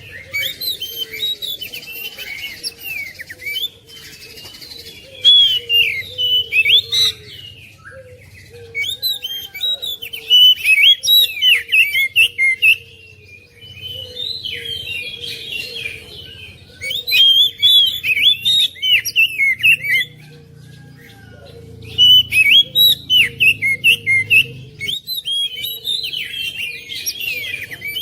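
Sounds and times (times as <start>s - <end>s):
bird singing whistles and chirps: 0.0s - 20.2s, 21.9s - 28.0s.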